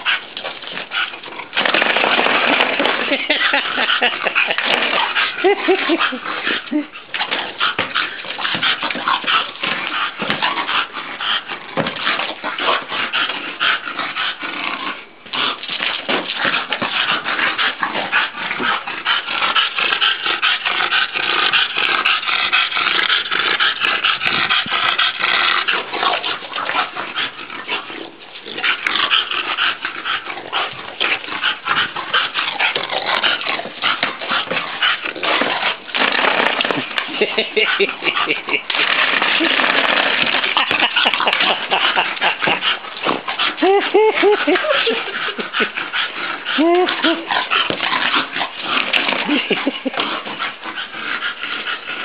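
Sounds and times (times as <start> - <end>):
dog making noisy vocal sounds: 0.0 - 35.9, 36.5 - 52.0.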